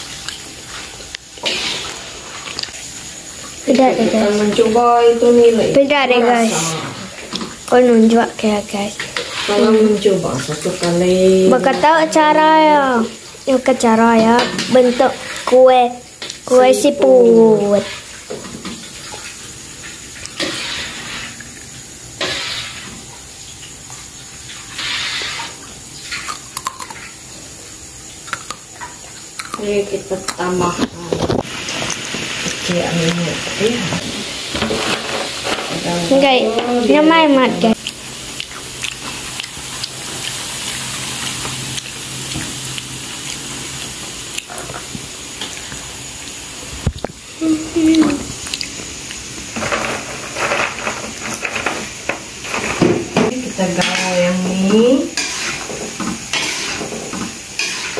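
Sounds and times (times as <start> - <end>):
oil sizzling in a wok: 0.0 - 57.9.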